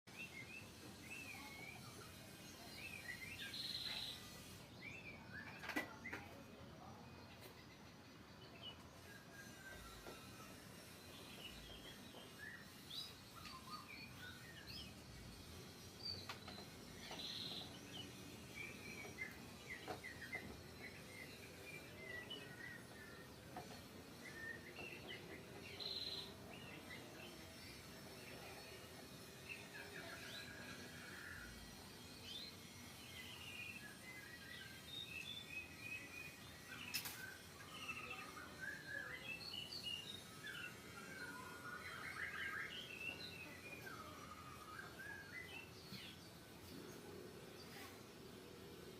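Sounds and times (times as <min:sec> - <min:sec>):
low background noise: 0:00.1 - 0:48.9
small birds chirping: 0:00.1 - 0:48.9.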